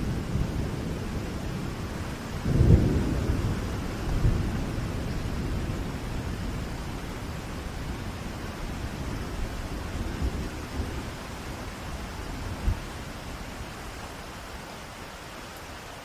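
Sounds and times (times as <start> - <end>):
thunder rumbling: 0.0 - 13.8
steady rain: 0.0 - 16.0.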